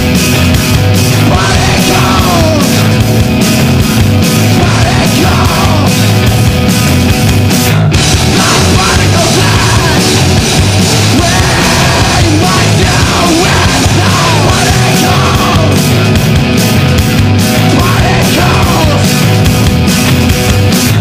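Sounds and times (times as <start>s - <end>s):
bass guitar: 0.0s - 21.0s
distorted electric guitars: 0.0s - 21.0s
pounding drums: 0.0s - 21.0s.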